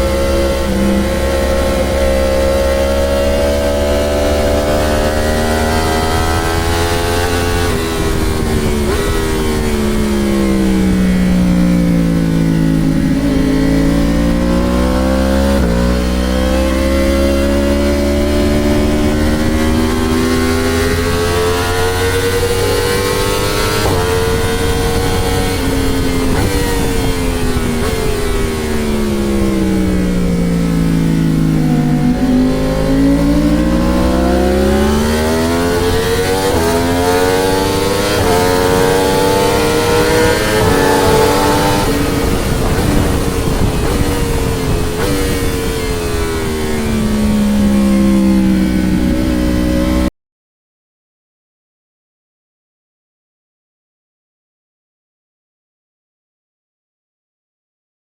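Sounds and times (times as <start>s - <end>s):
motorcycle engine revving: 0.0s - 50.1s
wind rumble on microphone: 0.0s - 50.1s.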